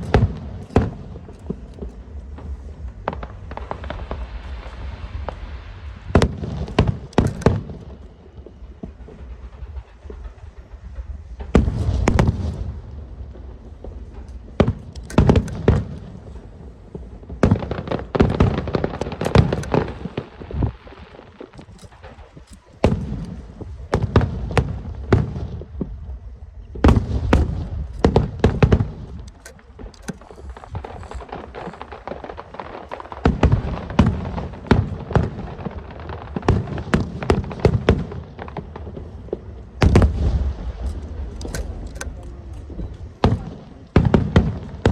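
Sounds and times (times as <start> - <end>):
fireworks bursting and crackling: 0.0 - 44.9.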